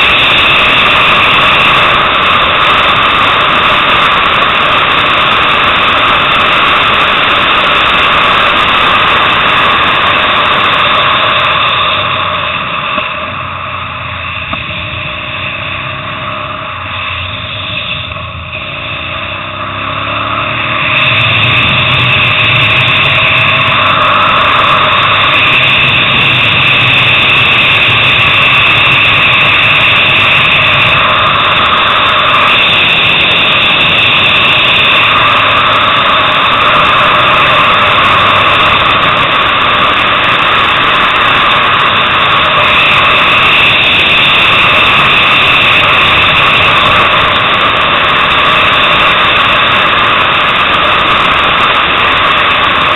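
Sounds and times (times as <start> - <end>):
motorcycle engine revving high: 0.0 - 52.9
wind rush: 0.0 - 52.9.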